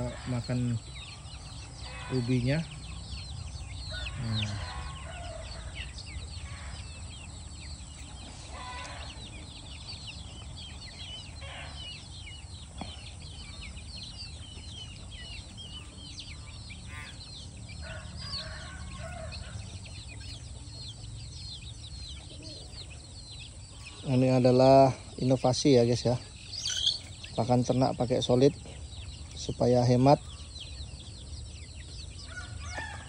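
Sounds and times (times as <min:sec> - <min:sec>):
chickens clucking: 0:00.0 - 0:33.0
chicks peeping: 0:00.0 - 0:33.0.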